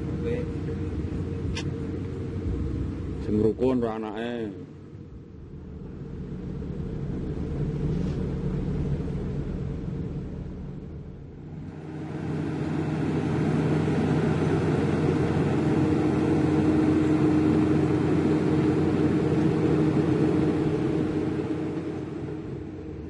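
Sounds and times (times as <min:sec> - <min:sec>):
heavy diesel engine running: 0:00.0 - 0:23.0
steady whine: 0:00.0 - 0:23.0.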